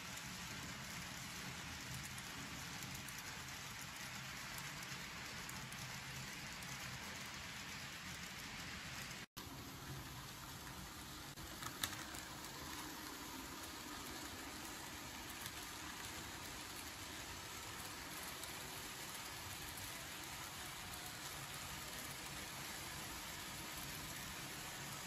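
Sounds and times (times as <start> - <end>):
model train rolling on track: 0.0 - 25.0.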